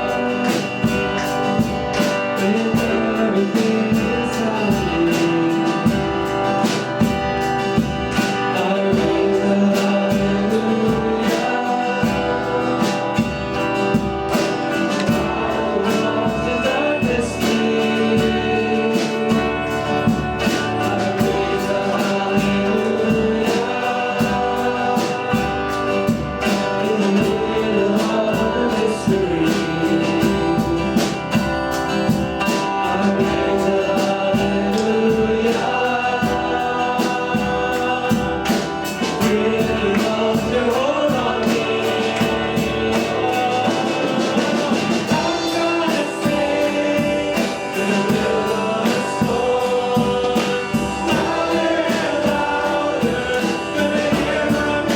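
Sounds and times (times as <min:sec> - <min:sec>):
group singing gospel song: 0:00.0 - 0:54.9
instrumental accompaniment with beat: 0:00.0 - 0:54.9.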